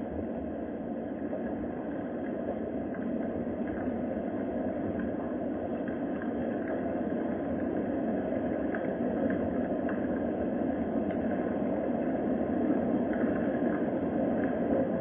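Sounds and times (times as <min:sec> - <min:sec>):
steady rain hissing: 0:00.0 - 0:15.0.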